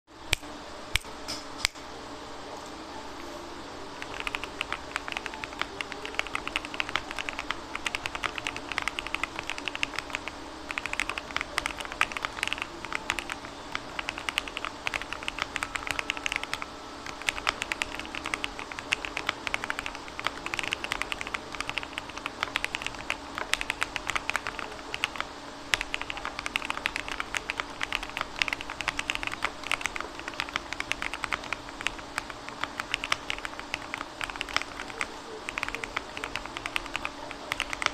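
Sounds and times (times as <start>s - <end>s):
typing on mechanical keyboard: 4.0s - 37.9s.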